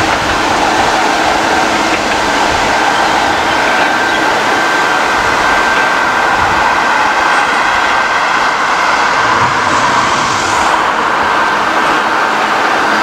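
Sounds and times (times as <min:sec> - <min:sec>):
diesel locomotive engine running: 0:00.0 - 0:13.0
high whine: 0:00.0 - 0:13.0
rail noise: 0:00.0 - 0:13.0.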